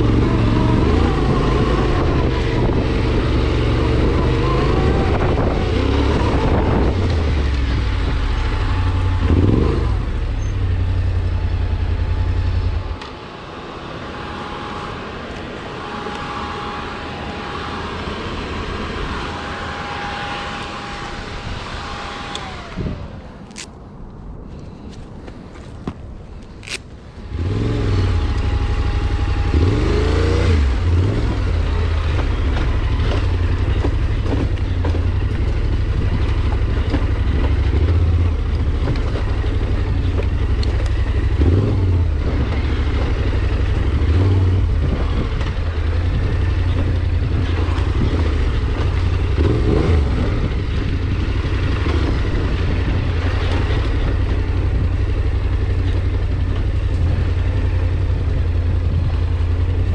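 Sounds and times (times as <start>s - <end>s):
vehicle engine revving: 0.0s - 23.7s, 26.6s - 59.9s.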